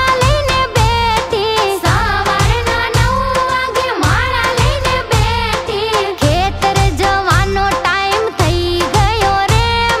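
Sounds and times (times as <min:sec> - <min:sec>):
devotional song with sliding melody: 0:00.0 - 0:10.0
steady drum beat: 0:00.0 - 0:10.0.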